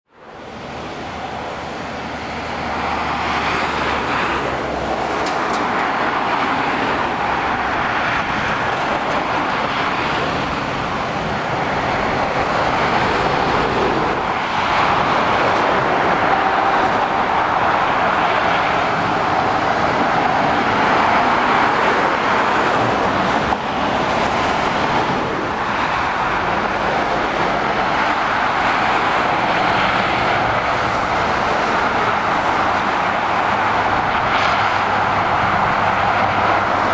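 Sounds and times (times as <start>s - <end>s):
motorway traffic rushing past: 0.1s - 36.9s.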